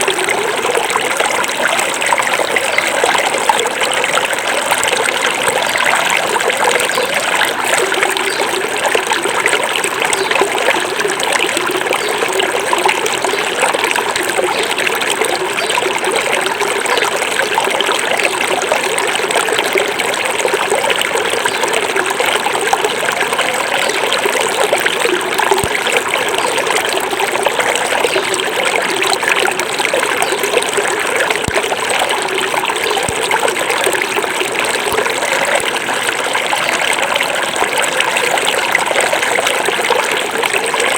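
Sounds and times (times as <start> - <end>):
river babbling over stones: 0.0 - 40.9.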